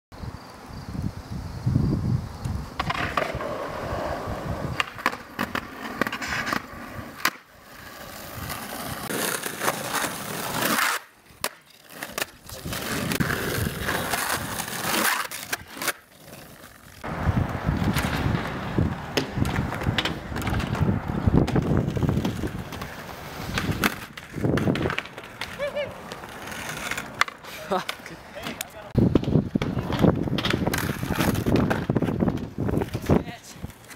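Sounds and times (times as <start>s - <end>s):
skateboard wheels rolling on asphalt: 0.2s - 33.9s
skateboard clacking on ground: 2.8s - 33.9s.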